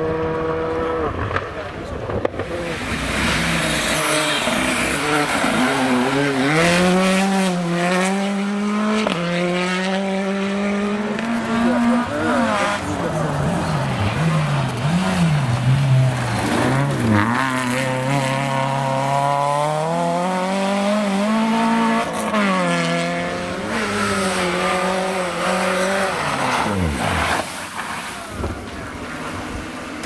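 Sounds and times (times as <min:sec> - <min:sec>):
rally car engine revving hard: 0:00.0 - 0:27.8.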